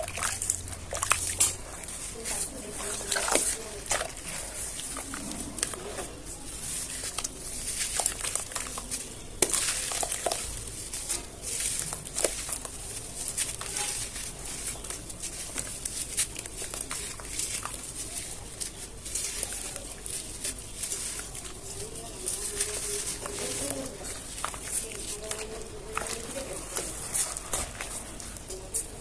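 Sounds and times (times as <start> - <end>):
cement chunks crumbling: 0.0 - 29.0.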